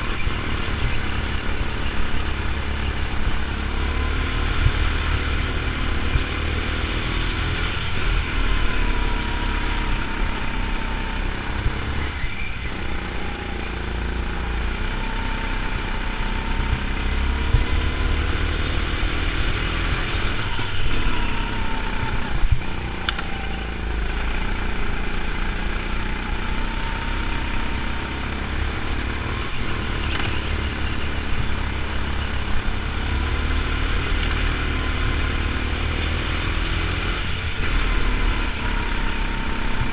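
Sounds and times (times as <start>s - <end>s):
go-kart motor revving: 0.0s - 39.9s.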